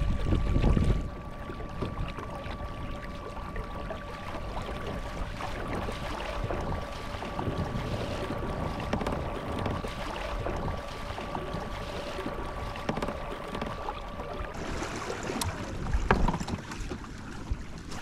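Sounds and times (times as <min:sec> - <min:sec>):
electric trolling motor whine: 0:00.0 - 0:16.2
water against hull: 0:00.0 - 0:18.0.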